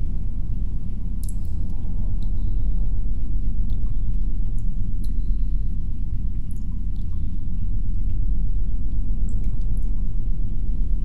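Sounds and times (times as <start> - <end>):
muffled low wind rumble: 0.0 - 11.0.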